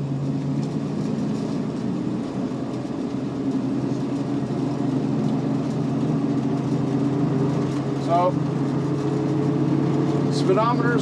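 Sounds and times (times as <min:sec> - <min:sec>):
car engine running heard from cabin: 0:00.0 - 0:11.0.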